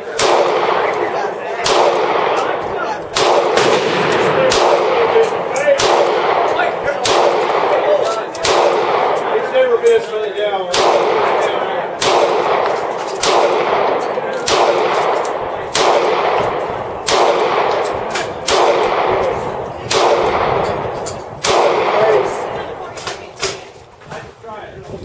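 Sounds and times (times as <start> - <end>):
faint distant gunshots: 0.0 - 9.6, 10.7 - 23.7
heavy gunshots echoing: 0.0 - 9.8, 10.7 - 23.7.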